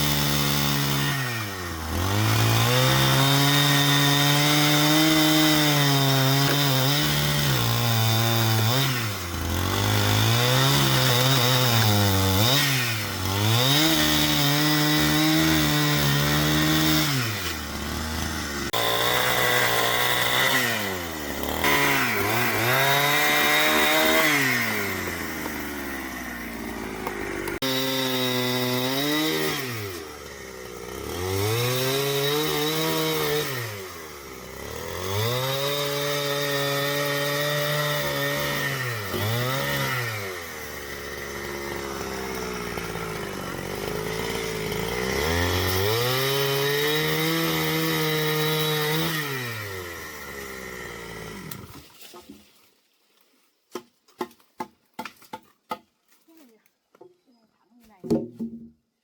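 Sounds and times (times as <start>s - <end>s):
chainsaw cutting wood: 0.0s - 52.5s, 53.7s - 55.9s, 57.8s - 58.8s.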